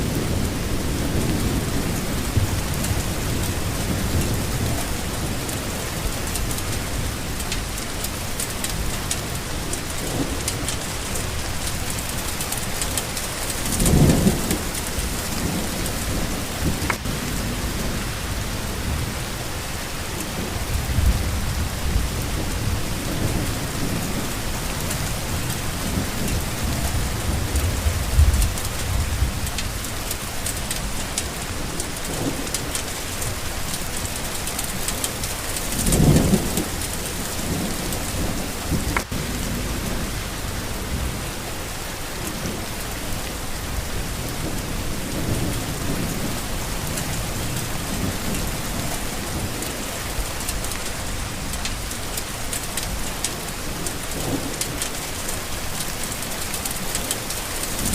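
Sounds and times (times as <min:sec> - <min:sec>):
rain falling: 0:00.0 - 0:57.9
thunder rumbling: 0:00.0 - 0:57.9.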